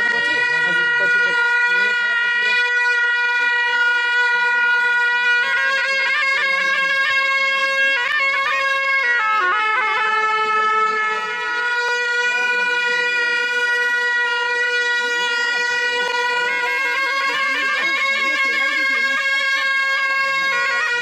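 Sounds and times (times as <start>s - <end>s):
ornamented shawm line: 0.0s - 21.0s.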